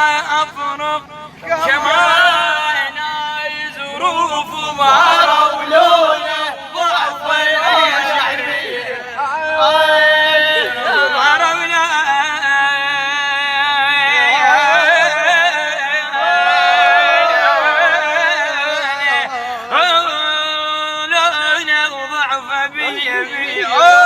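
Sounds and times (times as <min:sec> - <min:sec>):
man singing with vibrato: 0:00.0 - 0:24.0.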